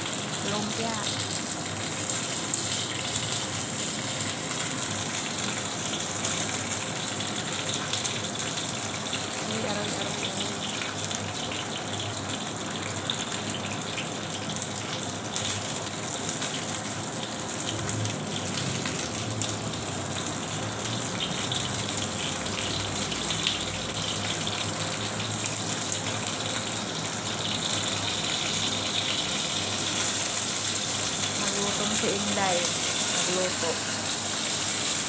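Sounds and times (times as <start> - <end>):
food deep-frying in hot oil: 0.0 - 35.0.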